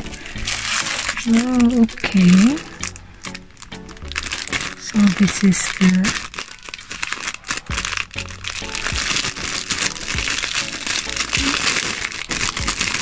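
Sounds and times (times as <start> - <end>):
background music: 0.0 - 13.0
plastic bag crinkling: 0.0 - 13.0.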